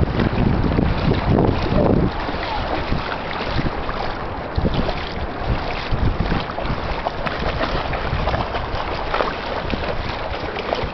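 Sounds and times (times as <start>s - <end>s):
puppy splashing through water: 0.0s - 10.9s
wind buffeting microphone: 0.0s - 10.9s.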